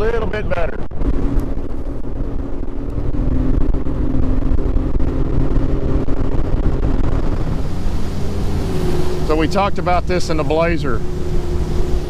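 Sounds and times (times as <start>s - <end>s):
hull rushing through water: 0.0s - 12.0s
outboard motor running: 0.8s - 12.0s.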